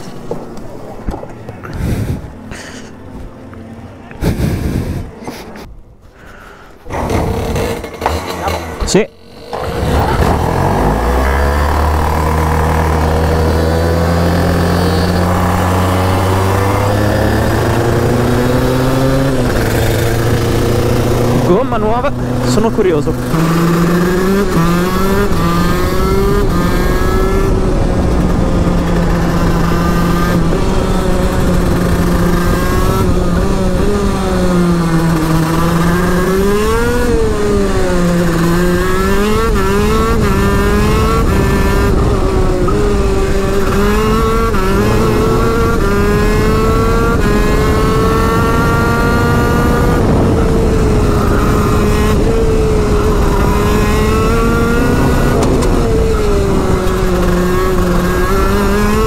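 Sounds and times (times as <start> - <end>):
kart engine revving: 6.8 - 59.0.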